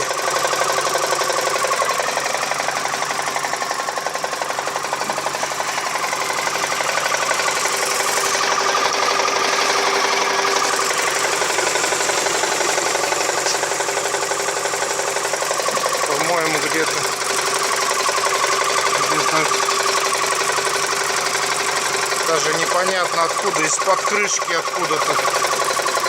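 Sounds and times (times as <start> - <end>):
car engine running: 0.0 - 26.0
fast ticking engine knock: 0.0 - 26.0.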